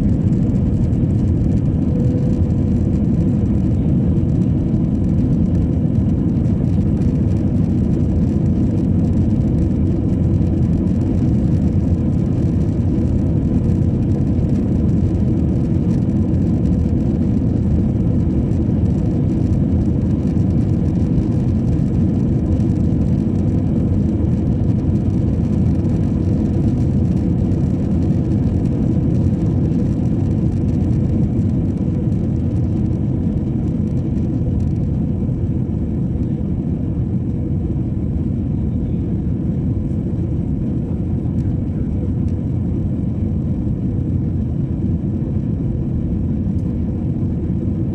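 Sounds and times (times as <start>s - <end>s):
jet engines and rushing air: 0.0s - 47.9s.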